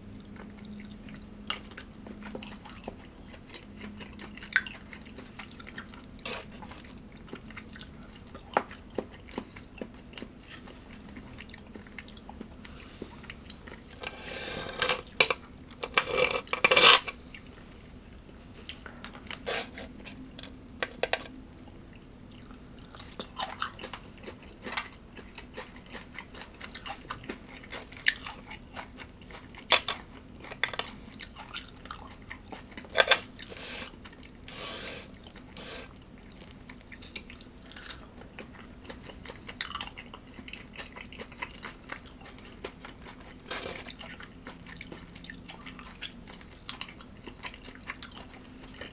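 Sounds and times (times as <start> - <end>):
chewing crunchy food: 0.0 - 48.9
faint steady hum: 0.0 - 48.9.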